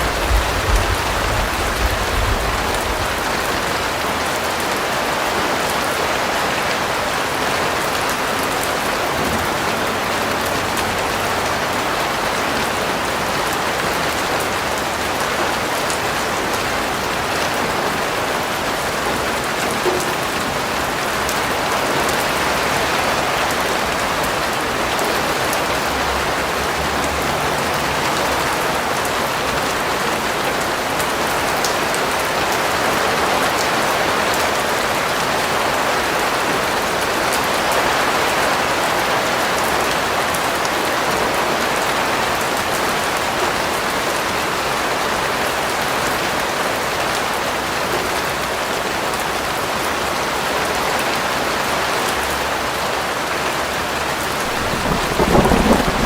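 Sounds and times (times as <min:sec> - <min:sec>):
rain falling: 0:00.0 - 0:56.0
raindrops pattering on surface: 0:00.0 - 0:56.0.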